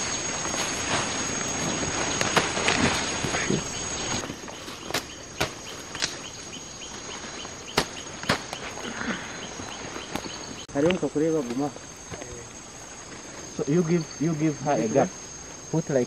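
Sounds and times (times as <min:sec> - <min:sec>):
high-pitched insect drone: 0:00.0 - 0:16.0
rustling in dense vegetation: 0:00.0 - 0:16.0.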